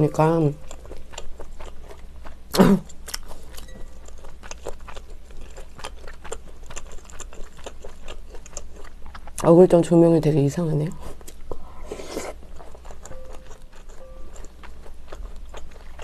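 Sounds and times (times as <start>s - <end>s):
chewing and wet mouth sounds: 0.0s - 9.7s, 11.0s - 16.0s.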